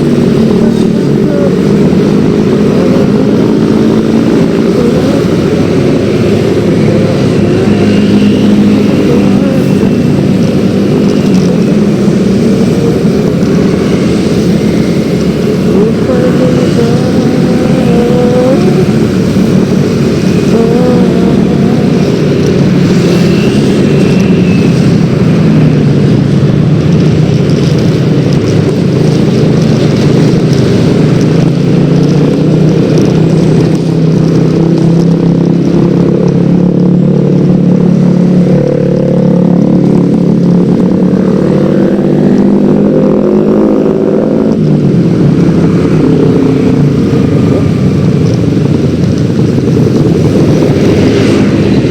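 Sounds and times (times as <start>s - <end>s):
scooter engine running: 0.0s - 51.9s
wind rushing: 0.0s - 51.9s.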